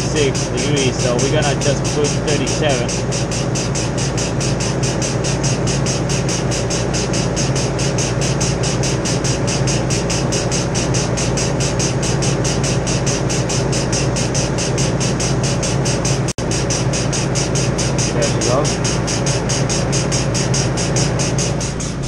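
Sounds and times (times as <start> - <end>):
compressor hum: 0.0 - 22.0
fast pulsing hiss: 0.0 - 22.0.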